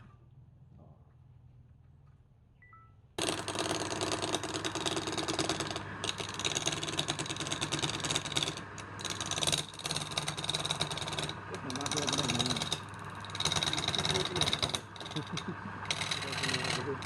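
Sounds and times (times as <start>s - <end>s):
lathe motor hum: 3.2s - 17.0s
lathe tool scraping workpiece: 3.2s - 17.0s.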